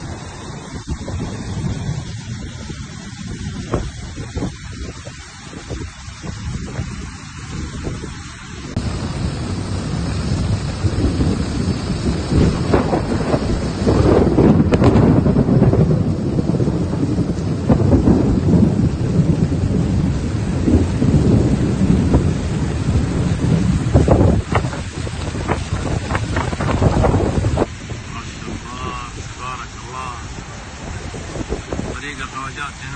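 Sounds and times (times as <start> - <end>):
heavy rainstorm rumbling: 0.0 - 32.9.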